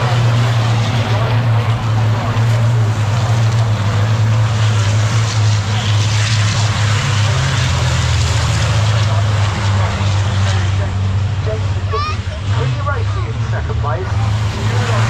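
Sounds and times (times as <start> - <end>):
diesel truck engines droning: 0.0 - 15.0.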